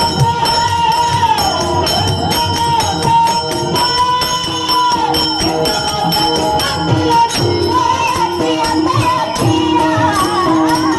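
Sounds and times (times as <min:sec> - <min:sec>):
group singing devotional song: 0:00.0 - 0:10.9
hand cymbals struck: 0:00.0 - 0:10.9.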